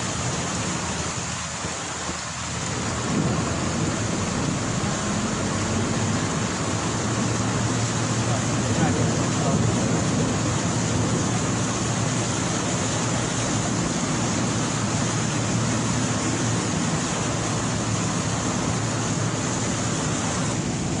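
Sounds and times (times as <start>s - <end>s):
heavy rain on a flooded street: 0.0s - 21.0s
low rumble: 2.7s - 21.0s.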